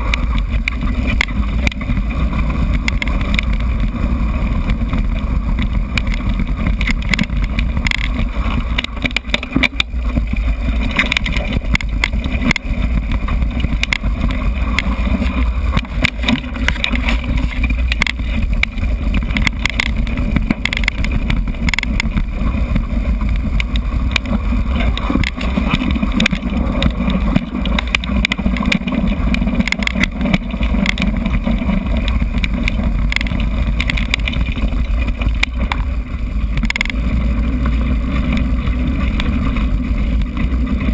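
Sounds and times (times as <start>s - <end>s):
bike rattling over bumps: 0.0s - 40.9s
wind and tyre rumble: 0.0s - 40.9s.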